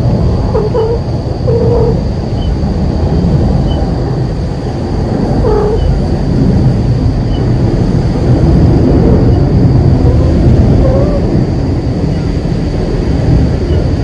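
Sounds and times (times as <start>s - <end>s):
thin high whine: 0.0s - 2.8s, 3.5s - 14.0s
low rumbling noise: 0.0s - 14.0s.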